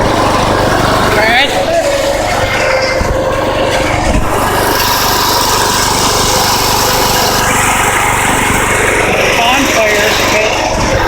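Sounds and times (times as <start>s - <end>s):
riding mower engine running: 0.0s - 11.0s.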